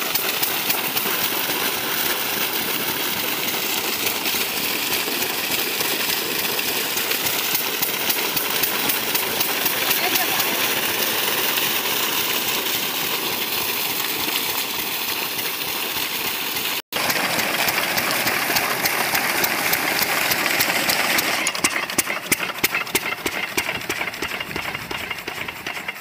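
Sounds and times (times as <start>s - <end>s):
diesel engine running: 0.0s - 26.0s
water gushing from pipe: 0.0s - 26.0s.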